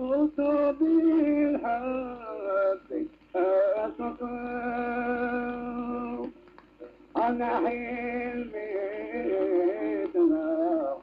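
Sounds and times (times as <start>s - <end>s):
person singing ornamented melody: 0.0s - 6.3s, 7.2s - 11.0s.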